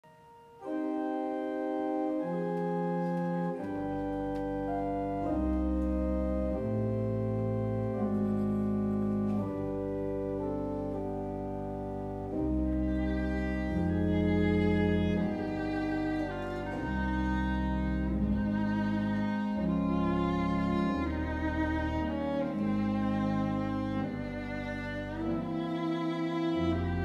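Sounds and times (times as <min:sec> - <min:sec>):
church organ chords: 0:00.1 - 0:27.0
deep organ pedal bass: 0:00.2 - 0:27.0.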